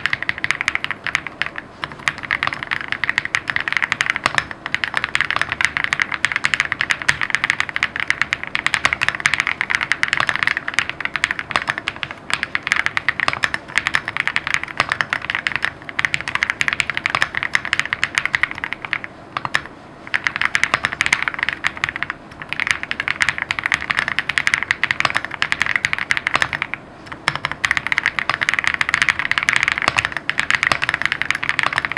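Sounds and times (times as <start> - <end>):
mechanical keyboard typing: 0.0 - 31.9.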